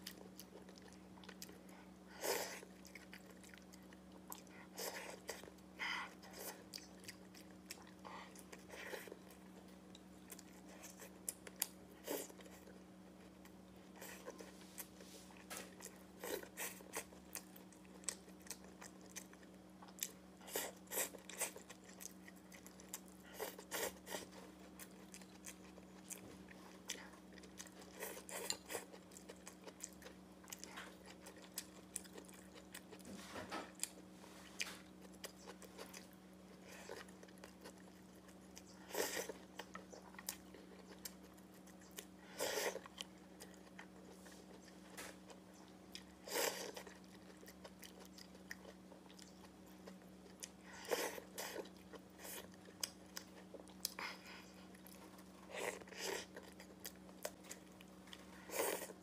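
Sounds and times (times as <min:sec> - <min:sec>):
chewing and lip smacks: 0:00.0 - 0:33.1, 0:33.7 - 0:59.0
faint steady hum: 0:00.0 - 0:59.0.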